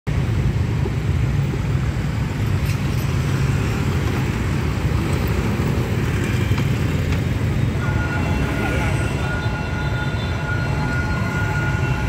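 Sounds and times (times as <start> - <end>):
low hum of engines: 0.1 - 12.0
motorbikes and cars driving: 0.1 - 12.0.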